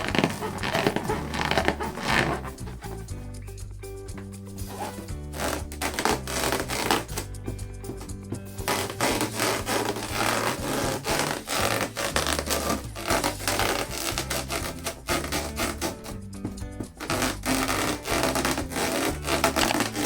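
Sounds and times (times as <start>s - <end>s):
balloons rubbed and squeezed: 0.0s - 3.6s, 4.6s - 7.3s, 8.6s - 16.3s, 16.9s - 20.0s
background music with bass: 0.0s - 20.0s.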